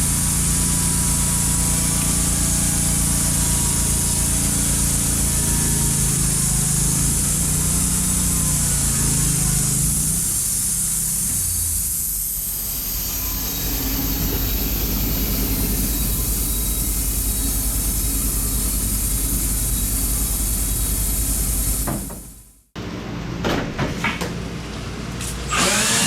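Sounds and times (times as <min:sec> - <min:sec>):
bandsaw sawmill sawing log: 0:00.0 - 0:22.1, 0:25.5 - 0:26.0.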